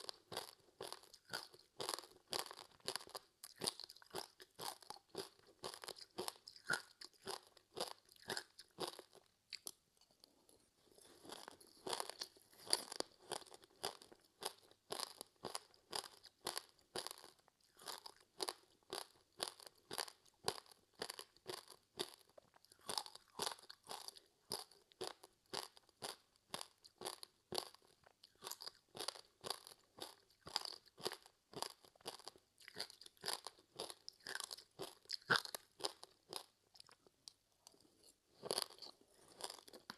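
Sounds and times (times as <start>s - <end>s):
crunchy snack chewing: 0.0s - 39.9s.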